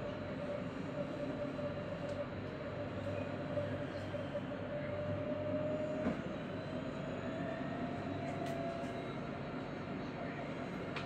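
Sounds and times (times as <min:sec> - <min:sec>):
tram motor whine: 0:00.0 - 0:11.0
tram rumbling on track: 0:00.0 - 0:11.0.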